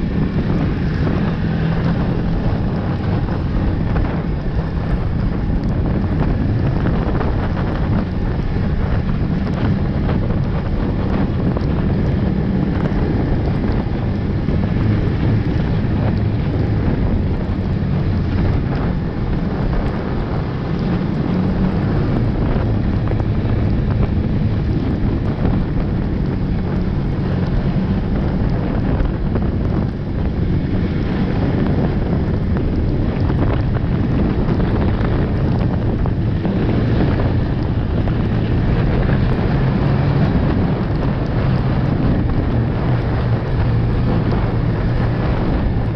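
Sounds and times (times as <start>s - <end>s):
snowmobile engine running: 0.0s - 45.9s
wind buffeting microphone: 0.0s - 45.9s.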